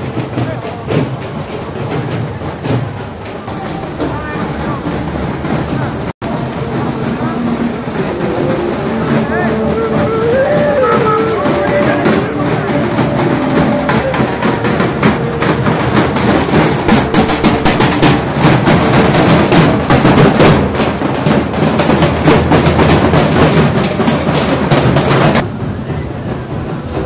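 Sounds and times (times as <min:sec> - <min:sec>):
barrel drums beaten fast: 0:00.0 - 0:27.0
street noise: 0:00.0 - 0:27.0.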